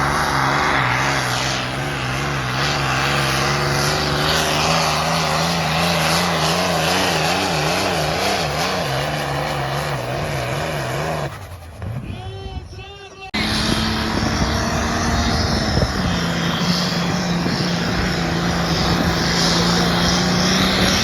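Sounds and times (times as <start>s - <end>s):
tractor engine at high revs: 0.0s - 21.0s.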